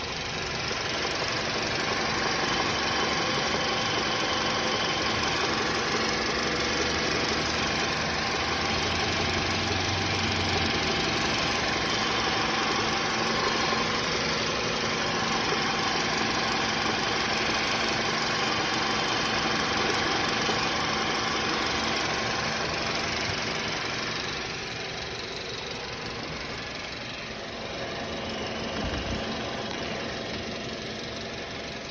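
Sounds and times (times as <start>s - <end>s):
car engine running: 0.0s - 31.9s
weird noise from car: 0.0s - 31.9s.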